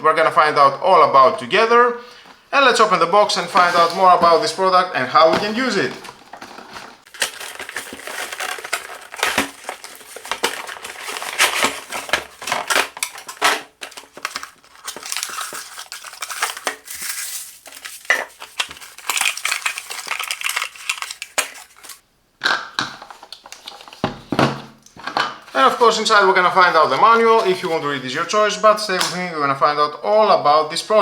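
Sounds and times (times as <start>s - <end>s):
cardboard and plastic rustling: 2.3s - 22.0s, 22.8s - 29.2s.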